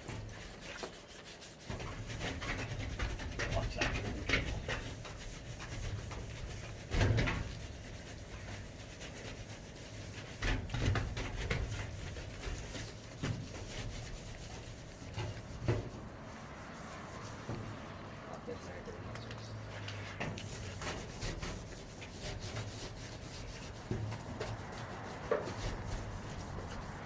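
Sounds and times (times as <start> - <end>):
brush scrubbing a metal door: 0.0 - 27.0.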